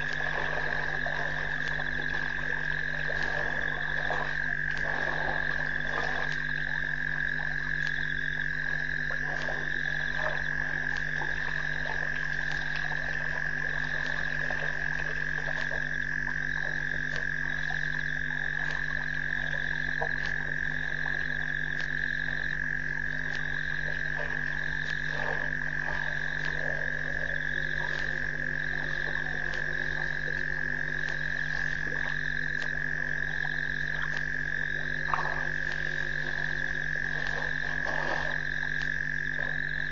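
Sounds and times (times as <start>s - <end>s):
frog chorus: 0.0s - 39.9s.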